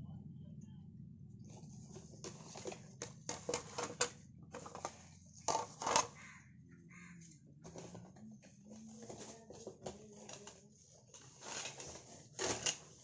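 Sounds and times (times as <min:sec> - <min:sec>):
cardboard and plastic rustling: 0:01.4 - 0:06.3, 0:07.0 - 0:13.0.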